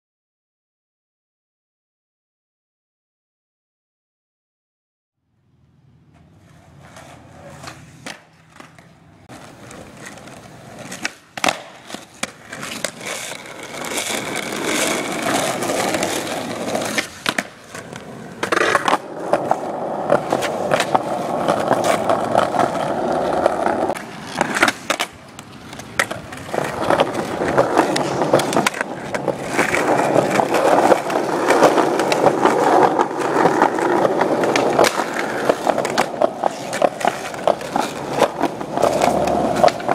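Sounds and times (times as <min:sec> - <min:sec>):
skateboard wheels rolling on concrete: 0:05.5 - 0:39.9
skateboard clacks and knocks: 0:06.1 - 0:39.9.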